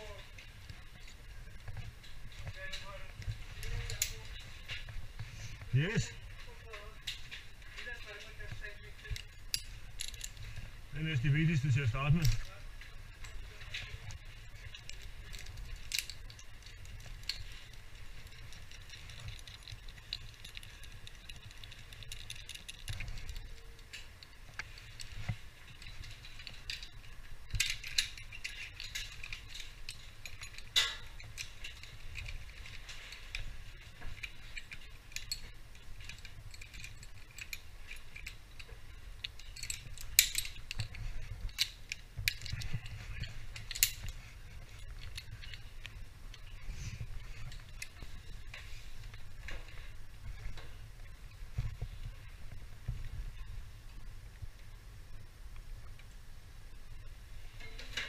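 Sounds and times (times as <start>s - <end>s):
metal carabiners clinking: 0.0s - 53.6s, 57.0s - 58.0s.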